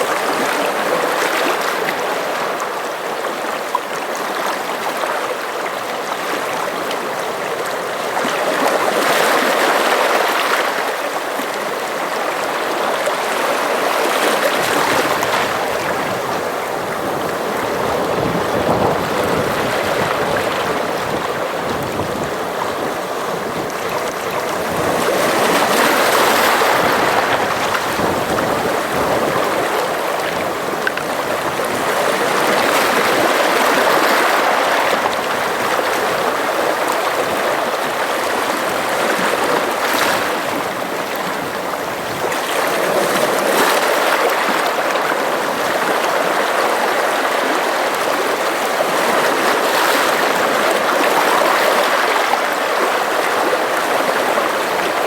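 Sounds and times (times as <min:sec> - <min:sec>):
sea waves washing: 0:06.0 - 0:55.0.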